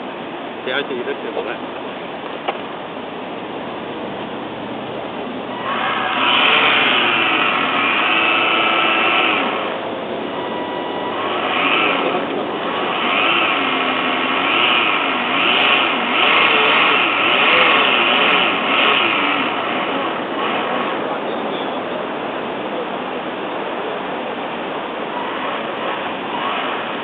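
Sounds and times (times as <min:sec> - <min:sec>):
model boat motor whining: 0:03.8 - 0:27.0.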